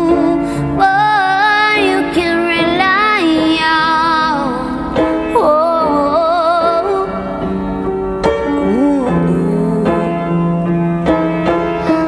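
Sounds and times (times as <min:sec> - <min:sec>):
upright piano chords: 0:00.0 - 0:12.0.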